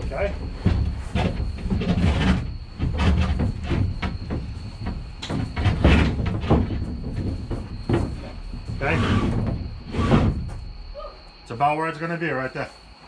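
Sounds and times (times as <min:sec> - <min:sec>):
panel knocking and scraping: 0:00.0 - 0:10.7.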